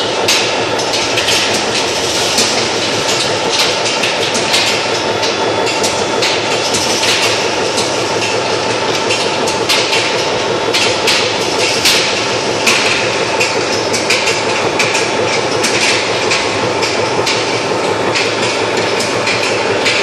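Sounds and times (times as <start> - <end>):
steady machine noise: 0.0 - 20.0.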